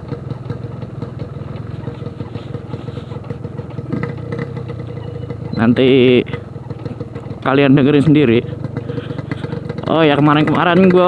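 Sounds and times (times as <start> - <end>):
two-stroke motorcycle engine popping: 0.0 - 11.0.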